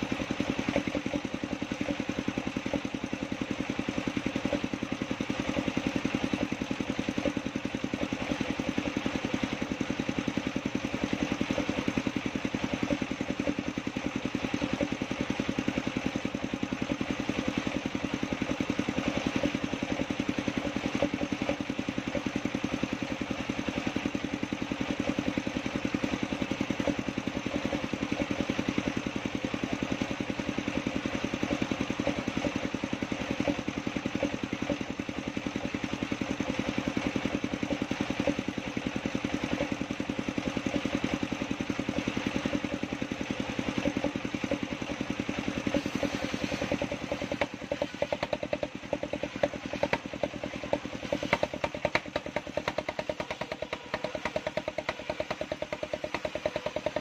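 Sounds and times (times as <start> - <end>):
engine-driven circular saw running: 0.0 - 57.0.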